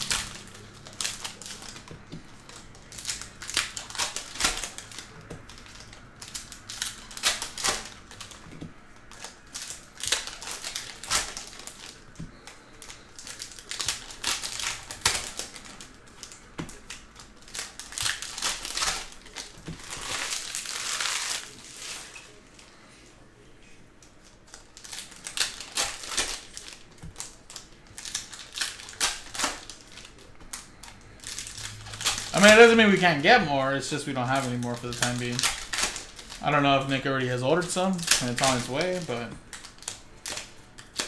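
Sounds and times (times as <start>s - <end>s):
wrapper crinkling: 0.0s - 22.8s, 24.1s - 41.0s
card wrappers tearing and rustling: 0.0s - 22.9s, 24.0s - 41.0s.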